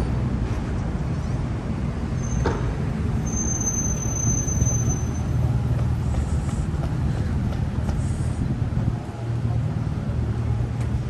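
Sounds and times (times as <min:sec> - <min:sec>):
road traffic engine rumble: 0:00.0 - 0:11.0.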